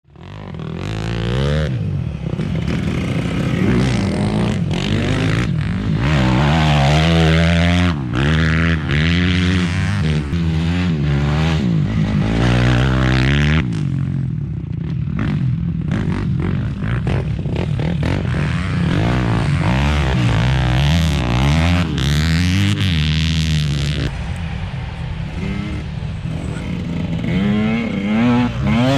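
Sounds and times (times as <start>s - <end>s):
dirt bike engine revving: 0.2s - 24.3s, 25.2s - 28.9s.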